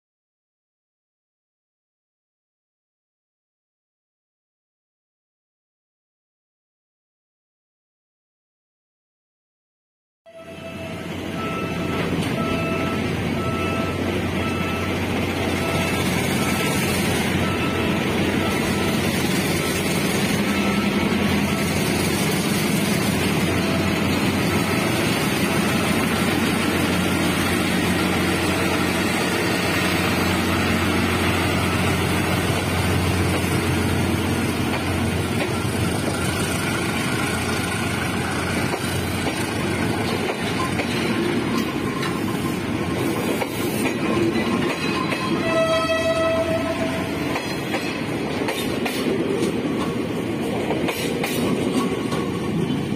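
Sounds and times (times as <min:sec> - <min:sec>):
diesel locomotive engine drone: 0:10.3 - 0:52.9
passenger coaches rolling by: 0:10.4 - 0:52.9.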